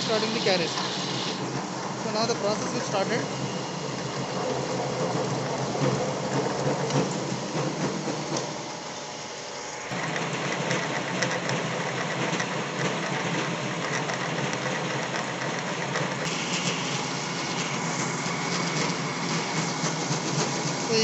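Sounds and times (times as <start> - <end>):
lathe tool cutting steel: 0.0 - 12.0, 15.5 - 21.0
metal lathe machine hum: 0.0 - 21.0.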